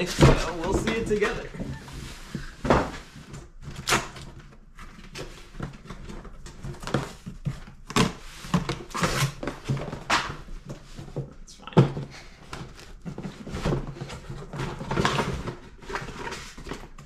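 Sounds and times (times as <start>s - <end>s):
cardboard and plastic rustling: 0.0s - 17.0s.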